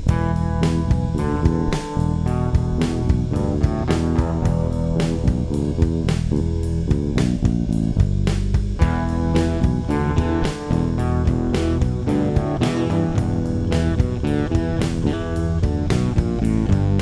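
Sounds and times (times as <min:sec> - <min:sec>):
bass: 0:00.0 - 0:17.0
guitar: 0:00.0 - 0:17.0
steady drum beat: 0:00.0 - 0:17.0.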